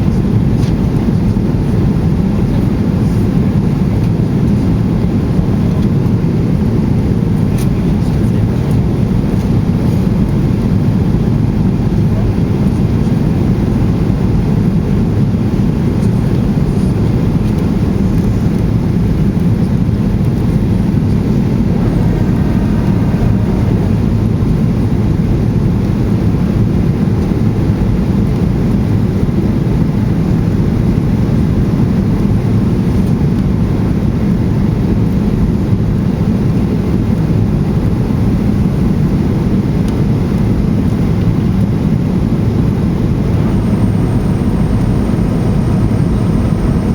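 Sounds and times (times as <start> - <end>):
airplane cabin engine roar: 0.0 - 46.9.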